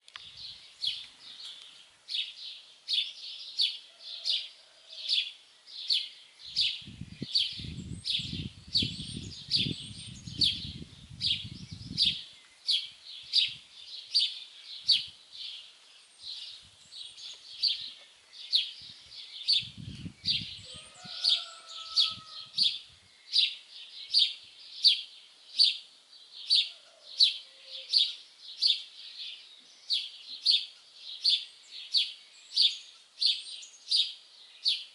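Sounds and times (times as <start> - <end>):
songbird sharp high chirp: 5.2 - 25.8, 27.3 - 34.9.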